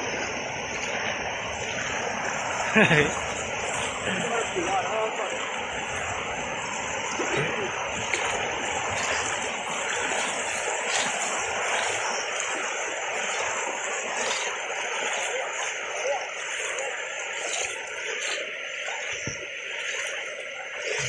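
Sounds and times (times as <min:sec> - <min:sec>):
floodwater rushing: 0:00.0 - 0:21.0
people wading and splashing: 0:00.0 - 0:21.0.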